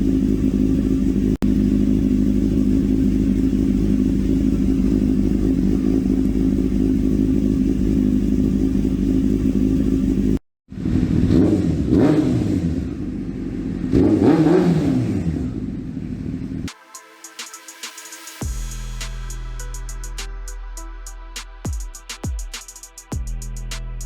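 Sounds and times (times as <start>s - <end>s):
motorcycle engine idling and revving: 0.0s - 16.7s, 18.2s - 20.6s, 21.3s - 24.0s.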